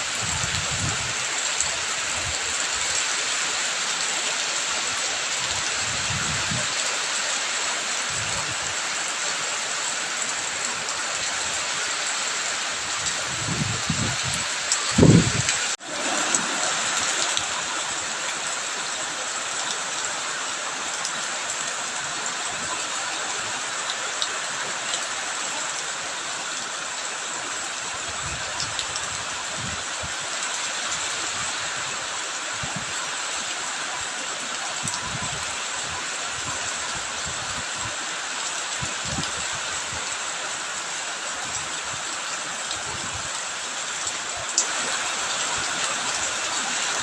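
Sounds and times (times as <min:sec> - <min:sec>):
running water: 0:00.0 - 0:47.0
steady rain: 0:00.0 - 0:47.0.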